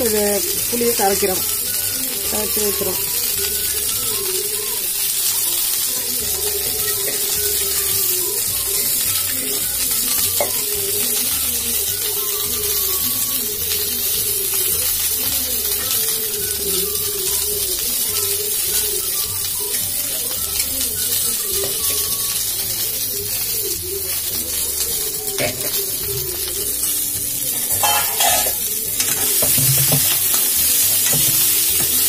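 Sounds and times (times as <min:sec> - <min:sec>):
background music: 0:00.0 - 0:32.0
okra sizzling in hot oil: 0:00.0 - 0:32.0.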